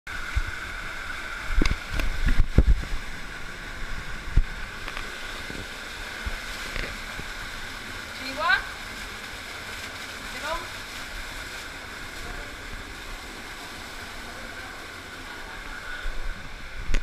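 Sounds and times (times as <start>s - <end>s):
faint high hum: 0.1s - 17.0s.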